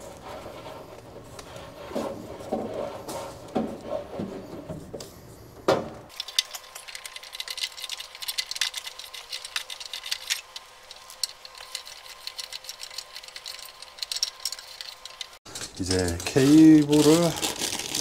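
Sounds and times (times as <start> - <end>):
cable scratching and rustling: 0.0 - 4.7, 6.2 - 18.0.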